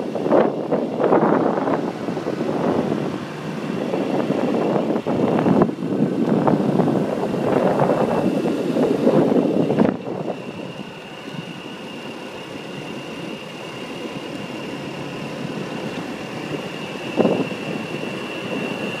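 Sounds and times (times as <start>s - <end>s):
thin high whine: 0.0s - 19.0s
vehicle road noise: 0.0s - 19.0s.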